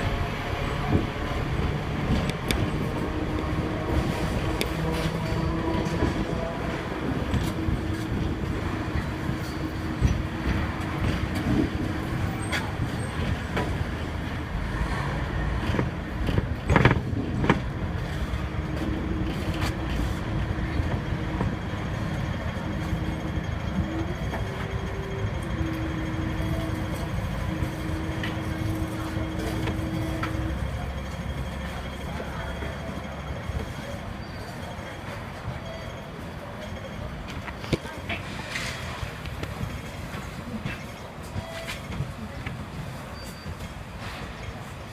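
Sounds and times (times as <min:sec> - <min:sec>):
tram motor hum: 0:00.0 - 0:44.9
tram wheels rumbling on rail: 0:00.0 - 0:44.9.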